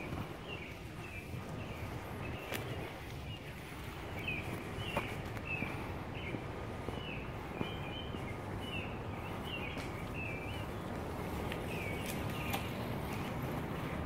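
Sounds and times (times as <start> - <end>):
small bird chirping: 0.0 - 13.5
footsteps on paved path: 0.0 - 14.0
low outdoor noise: 0.0 - 14.0.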